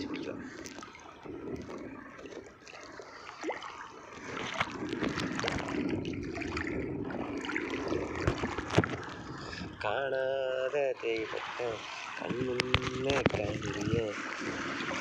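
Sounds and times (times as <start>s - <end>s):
water splashing and trickling: 0.0s - 15.0s.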